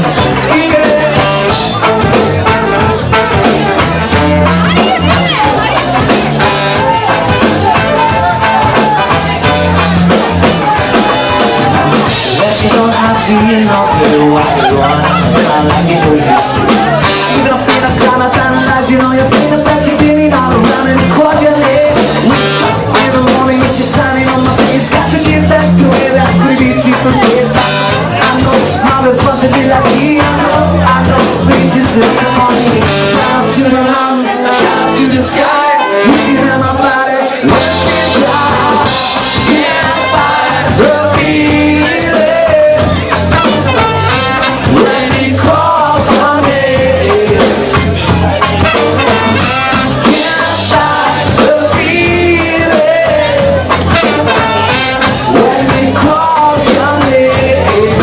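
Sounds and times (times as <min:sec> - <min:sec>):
person singing: 0:00.0 - 0:58.0
ska-punk band playing live: 0:00.0 - 0:58.0.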